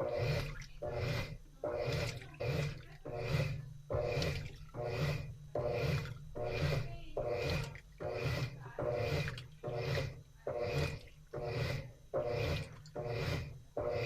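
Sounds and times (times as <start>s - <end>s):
washing machine churning laundry: 0.0s - 14.0s.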